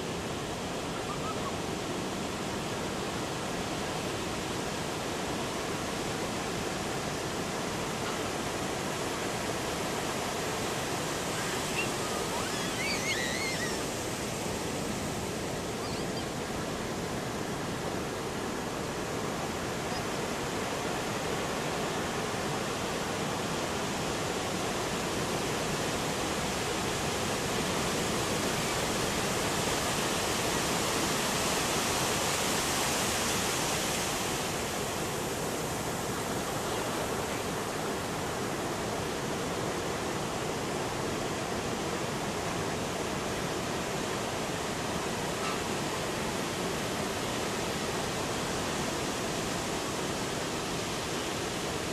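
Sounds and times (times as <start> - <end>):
heavy surf breaking on beach: 0.0 - 51.9.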